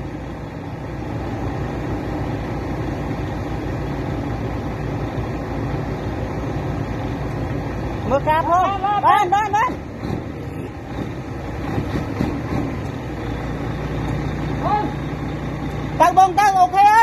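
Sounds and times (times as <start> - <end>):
construction machine engine running: 0.0 - 17.0.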